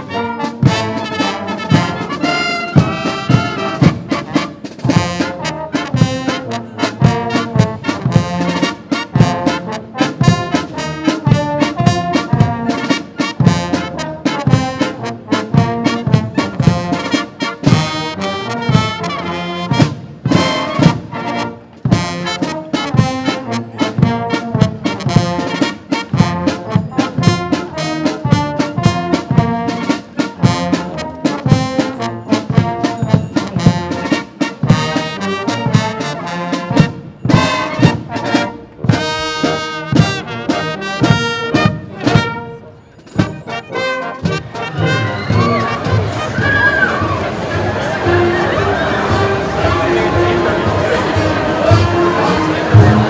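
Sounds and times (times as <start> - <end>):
brass band playing a march: 0.0 - 53.0
steady drum beat: 0.6 - 42.4, 43.2 - 53.0.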